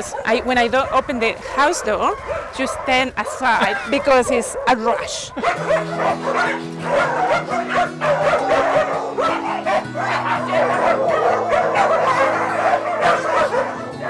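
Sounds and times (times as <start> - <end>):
background music: 0.0 - 14.0
dogs barking and yipping: 0.0 - 14.0.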